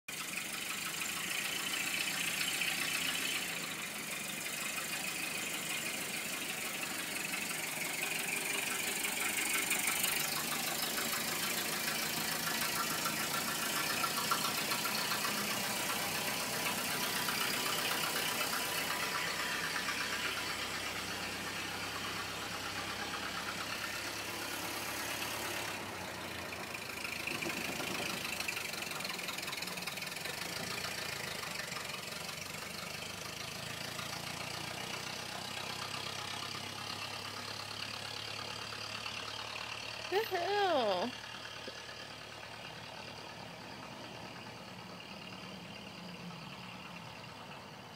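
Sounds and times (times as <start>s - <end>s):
old truck engine driving: 0.1s - 47.9s.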